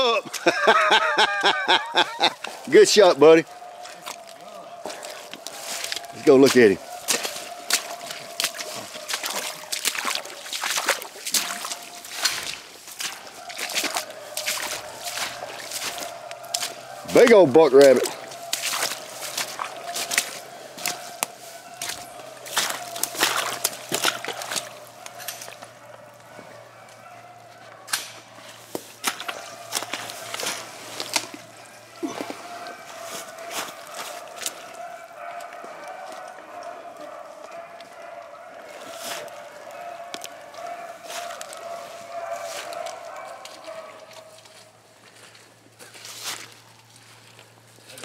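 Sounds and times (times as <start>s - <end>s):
leaves crackling and rustling: 0.0s - 26.3s, 27.4s - 34.7s, 38.8s - 48.0s
footsteps splashing through water: 0.2s - 48.0s.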